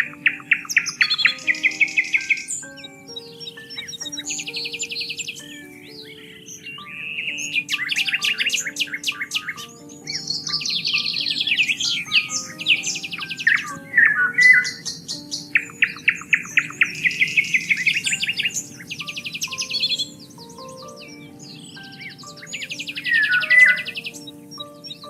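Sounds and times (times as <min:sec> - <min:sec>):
soft music with held notes: 0:00.0 - 0:25.0
songbirds trilling and chirping: 0:00.0 - 0:25.0.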